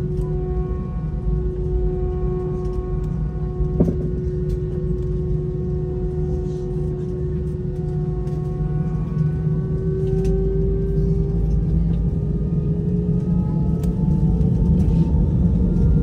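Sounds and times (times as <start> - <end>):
deep rumble: 0.0 - 16.0
jet engine hum in cabin: 0.0 - 16.0.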